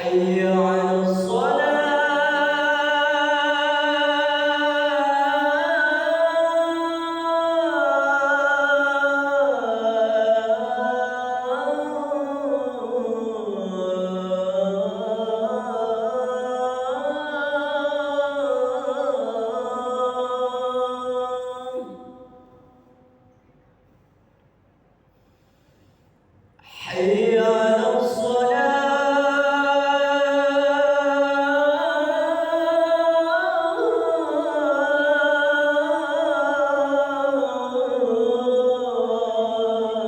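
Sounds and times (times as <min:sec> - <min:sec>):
man chanting call to prayer: 0:00.0 - 0:22.2, 0:26.7 - 0:40.0.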